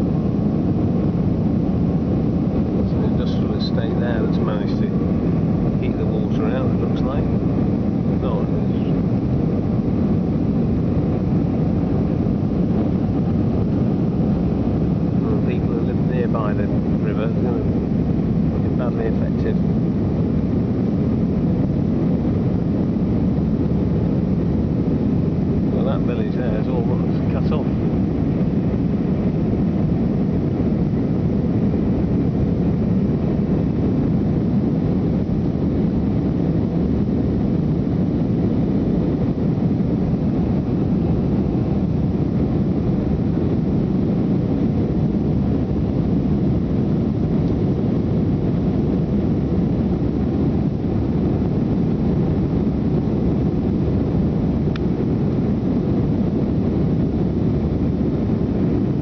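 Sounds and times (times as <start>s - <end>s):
jet engine cabin roar: 0.0s - 59.0s.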